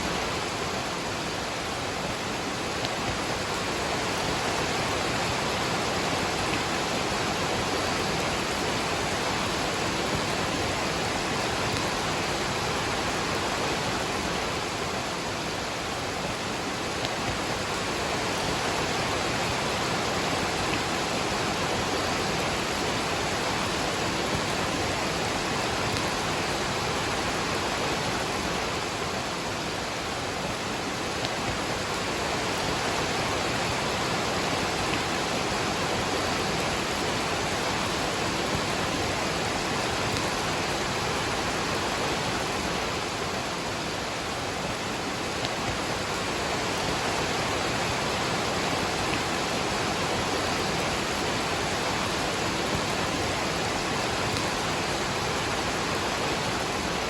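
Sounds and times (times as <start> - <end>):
rain: 0.0 - 57.0
waterfall rushing: 0.0 - 57.0.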